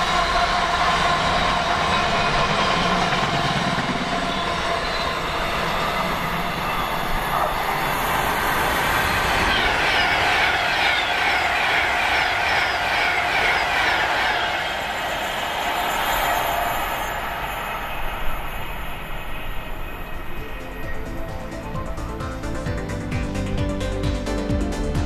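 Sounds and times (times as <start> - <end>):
train wheels clattering: 0.0 - 22.0
freight train rolling past: 0.0 - 25.0.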